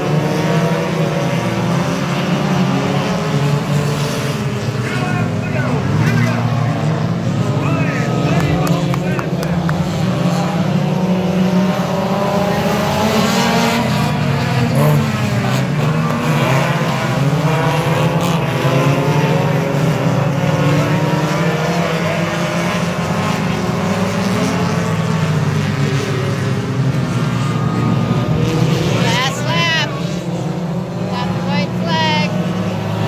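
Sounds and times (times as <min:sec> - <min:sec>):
race car engines accelerating: 0:00.0 - 0:33.0.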